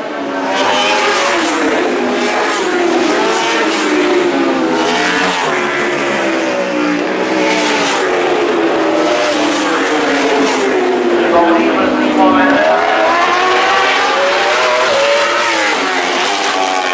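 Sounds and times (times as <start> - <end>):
racing motorcycles passing: 0.0 - 16.9.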